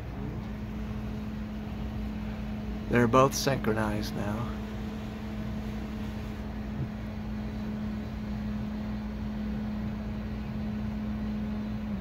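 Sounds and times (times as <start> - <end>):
window blind motors humming: 0.0 - 12.0.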